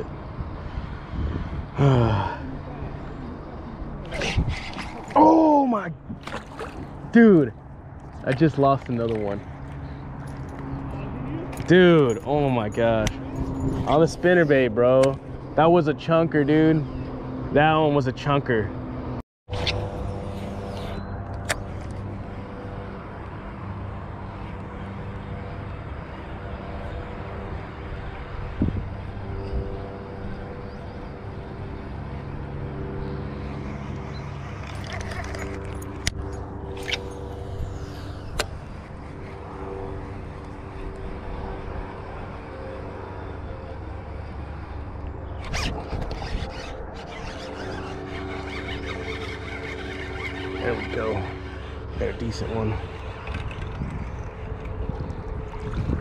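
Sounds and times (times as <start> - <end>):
freeway traffic rumble: 0.0 - 56.0.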